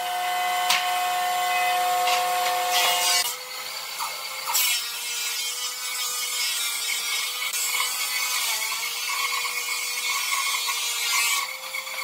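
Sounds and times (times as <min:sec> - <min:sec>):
power tool cutting wood: 0:00.0 - 0:12.0.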